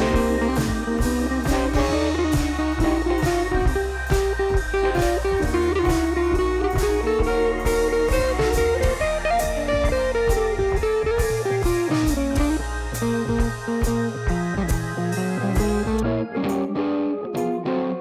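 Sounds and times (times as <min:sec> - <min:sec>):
steady drum beat: 0:00.0 - 0:16.0
bass: 0:00.0 - 0:16.8
bluesy electric guitar melody: 0:00.0 - 0:18.0.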